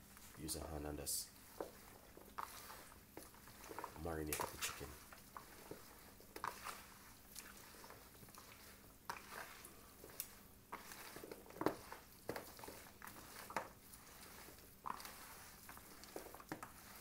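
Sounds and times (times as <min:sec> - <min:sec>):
hand mixing raw chicken: 0:00.0 - 0:17.0.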